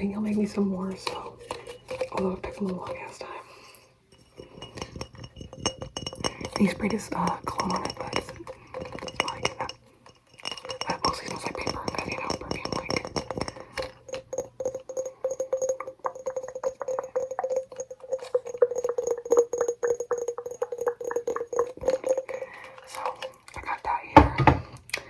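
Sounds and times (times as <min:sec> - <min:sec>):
fingernails tapping on glass jar: 0:00.0 - 0:24.7.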